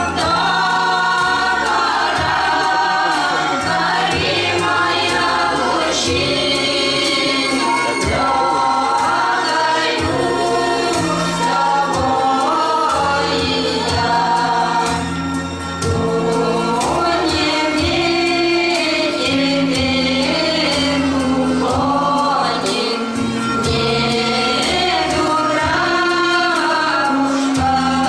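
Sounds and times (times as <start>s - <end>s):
choir singing in parts: 0.0s - 28.0s.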